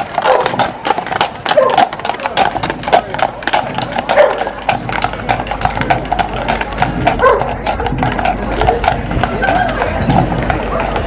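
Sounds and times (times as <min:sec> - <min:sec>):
hooves clip-clopping on pavement: 0:00.0 - 0:11.0.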